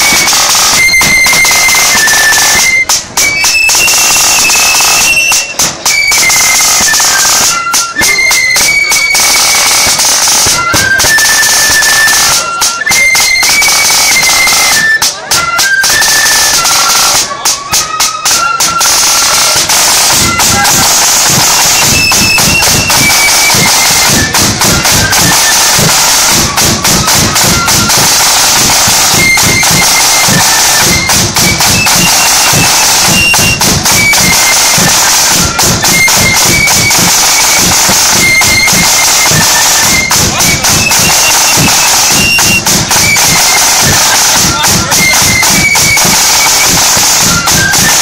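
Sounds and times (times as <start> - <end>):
flute melody: 0.0 - 48.0
side drum beating: 0.0 - 48.0.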